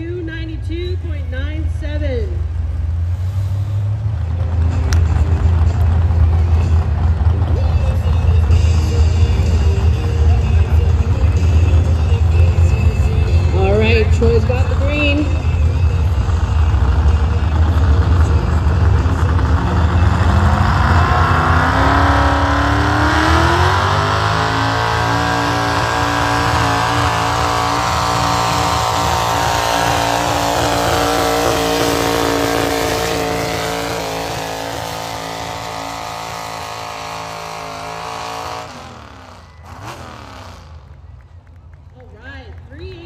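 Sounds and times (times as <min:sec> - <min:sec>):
truck engine at full throttle: 0:00.0 - 0:42.3.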